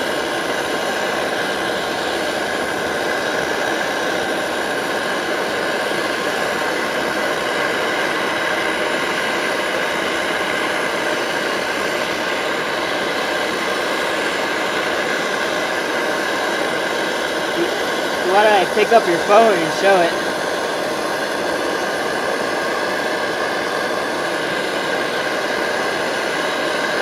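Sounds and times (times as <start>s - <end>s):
camping stove burning: 0.0s - 27.0s.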